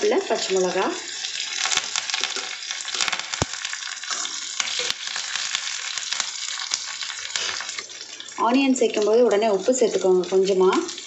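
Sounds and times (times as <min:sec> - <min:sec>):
oil crackling and popping: 0:00.0 - 0:11.0
onions sizzling in hot oil: 0:00.0 - 0:11.0.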